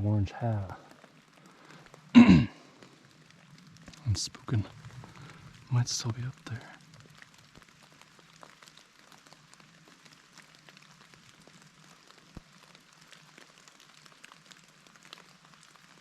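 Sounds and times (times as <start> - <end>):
snow dripping from trees: 0.0 - 16.0.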